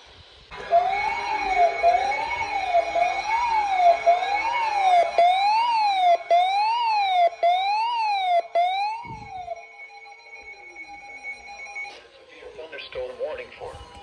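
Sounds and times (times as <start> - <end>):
electronic siren alert: 0.5 - 12.0.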